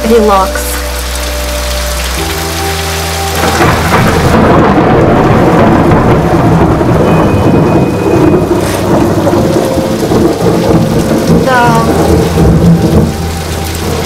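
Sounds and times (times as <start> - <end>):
heavy rain pouring: 0.0 - 14.0
thunder rumbling: 0.0 - 14.0.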